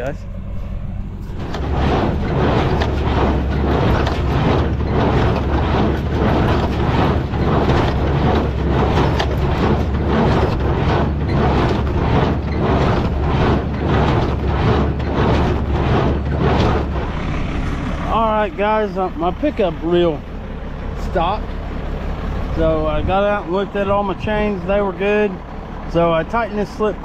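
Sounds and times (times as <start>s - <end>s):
hay baler working rhythmically: 0.0s - 27.0s
tractor engine drone: 0.0s - 27.0s.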